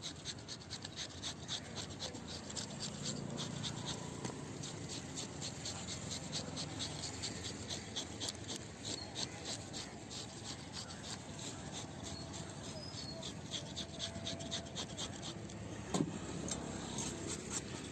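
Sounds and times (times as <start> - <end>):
fish scaler scraping scales: 0.1 - 15.6, 16.4 - 17.9.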